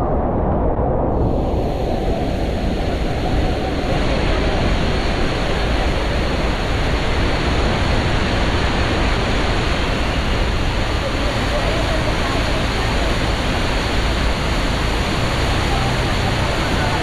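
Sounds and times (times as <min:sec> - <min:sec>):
roar of waterfall: 0:00.0 - 0:17.0.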